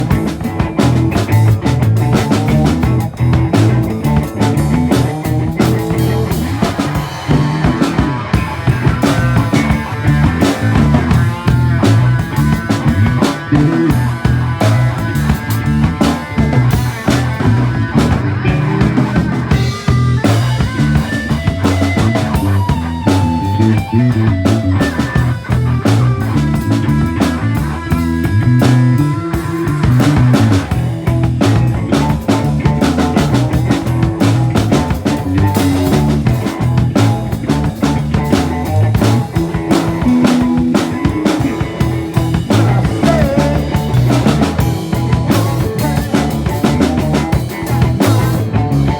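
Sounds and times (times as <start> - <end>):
rock band playing: 0.0 - 48.9.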